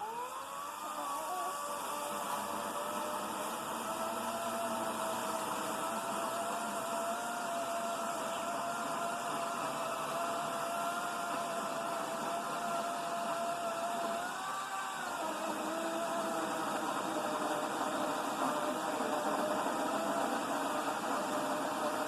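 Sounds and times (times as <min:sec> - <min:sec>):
electric chainsaw cutting wood: 0:00.0 - 0:22.0.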